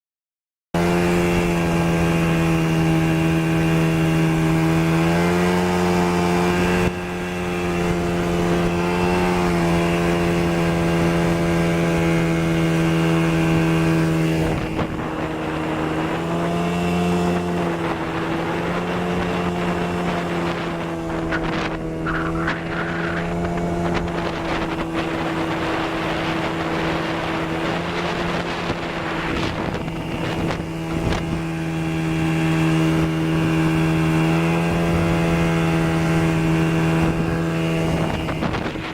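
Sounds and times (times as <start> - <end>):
outboard motor running: 0.8 - 38.9.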